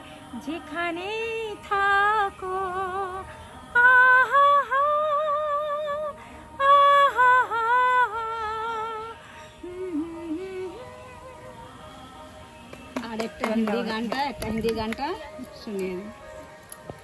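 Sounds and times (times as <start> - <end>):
woman singing unaccompanied: 0.0 - 16.9.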